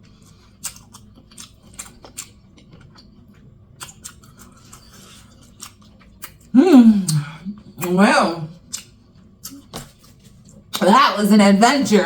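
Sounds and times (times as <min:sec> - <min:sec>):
wet lip smacks and mouth clicks: 0:00.0 - 0:07.9, 0:08.6 - 0:10.8
person chewing food: 0:00.0 - 0:08.0, 0:08.6 - 0:10.8.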